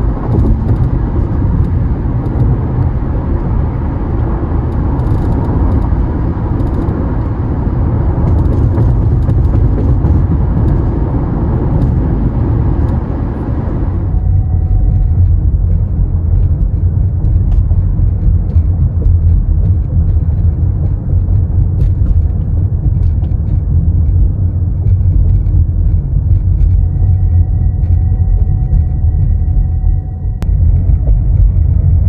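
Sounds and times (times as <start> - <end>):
road rumble inside car cabin: 0.0 - 32.0.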